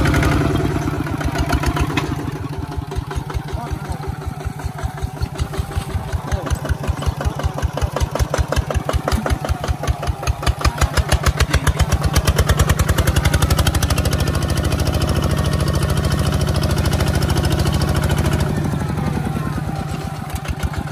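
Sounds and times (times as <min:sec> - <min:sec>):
diesel engine under load: 0:00.0 - 0:20.9.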